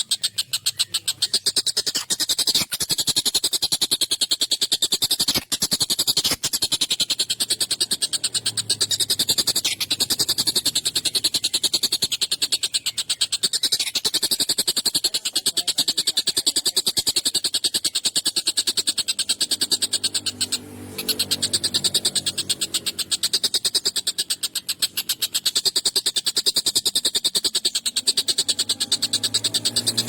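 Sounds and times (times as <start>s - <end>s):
kingfisher harsh chatter: 0.0s - 2.9s, 6.1s - 30.0s.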